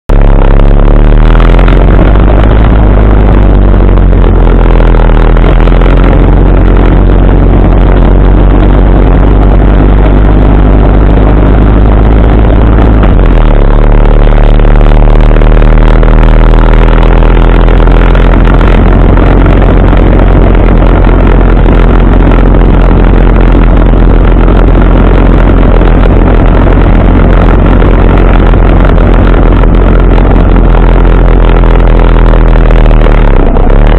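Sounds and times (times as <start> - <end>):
motorcycle engine rumbling: 0.0 - 33.9.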